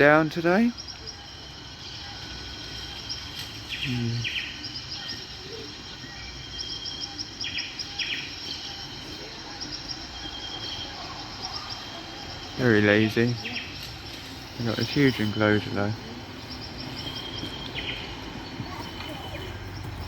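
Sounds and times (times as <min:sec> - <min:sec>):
small birds chirping: 0:00.0 - 0:20.0
steady background hiss: 0:00.0 - 0:20.0.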